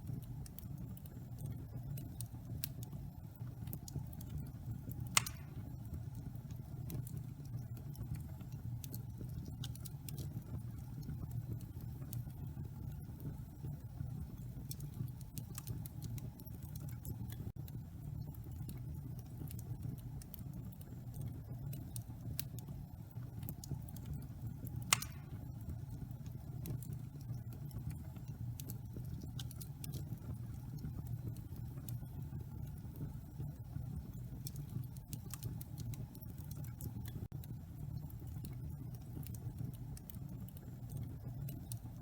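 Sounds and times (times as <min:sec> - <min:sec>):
fire crackling and snapping: 0:00.0 - 0:42.0
fire flames rumbling: 0:00.0 - 0:42.0.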